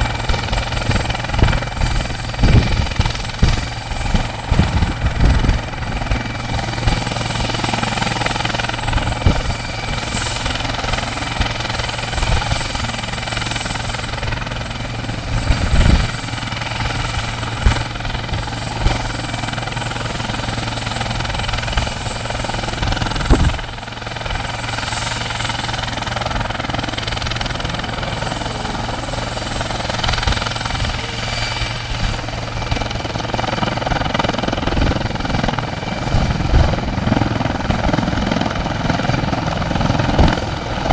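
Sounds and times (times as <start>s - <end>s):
helicopter flying by: 0.0s - 40.9s.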